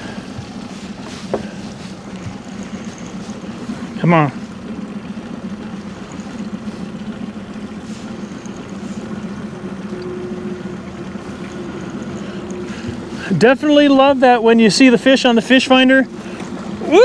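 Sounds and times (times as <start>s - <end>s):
outboard motor humming: 0.0s - 17.0s.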